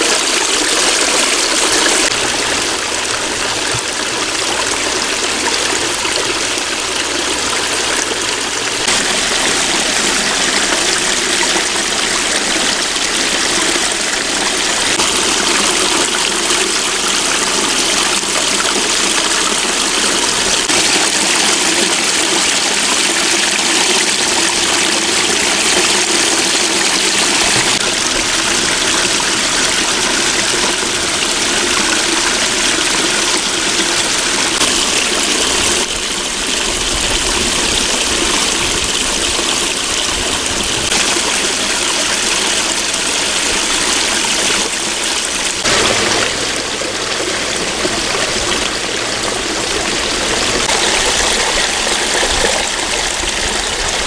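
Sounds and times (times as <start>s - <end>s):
waterfall splashing over rocks: 0.0s - 54.0s.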